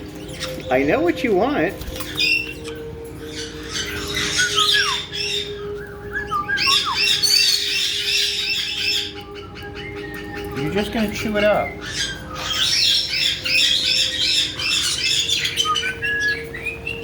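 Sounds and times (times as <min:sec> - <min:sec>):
parrots squawking and chirping: 0:00.0 - 0:17.0.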